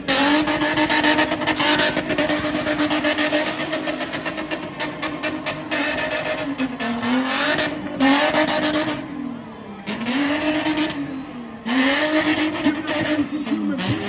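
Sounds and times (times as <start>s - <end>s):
car engine revving high: 0.0s - 14.0s.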